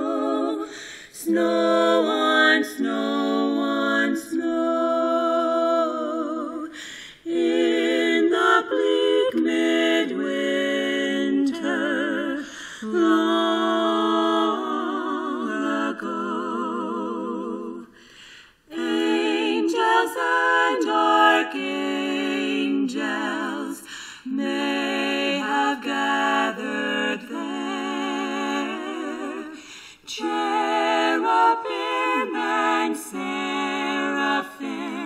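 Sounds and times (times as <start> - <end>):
women singing in harmony: 0.0 - 35.0.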